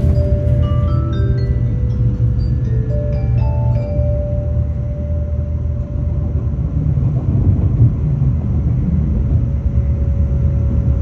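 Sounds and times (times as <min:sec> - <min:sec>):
faint steady hum: 0:00.0 - 0:11.0
train rumble inside carriage: 0:00.0 - 0:11.0.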